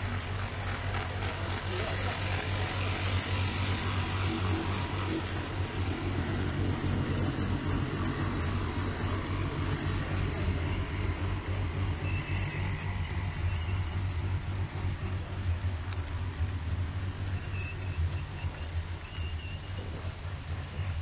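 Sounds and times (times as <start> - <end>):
model train engine rumble: 0.0 - 21.0
wheels rolling on track: 0.0 - 21.0.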